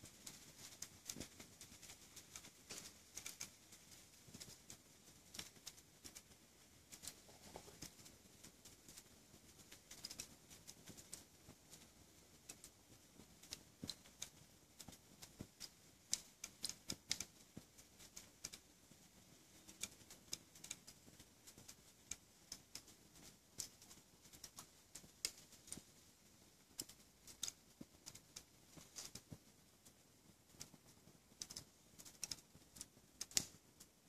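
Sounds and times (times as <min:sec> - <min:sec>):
fire crackling: 0:00.0 - 0:34.0.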